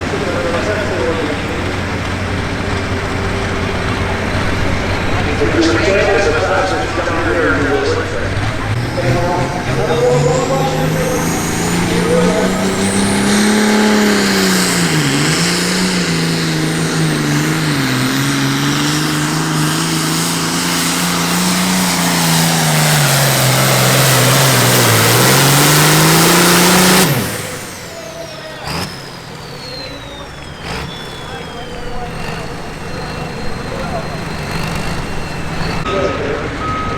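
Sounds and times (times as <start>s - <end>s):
diesel engine at full throttle: 0.0s - 36.9s
high turbo whine: 0.0s - 36.9s.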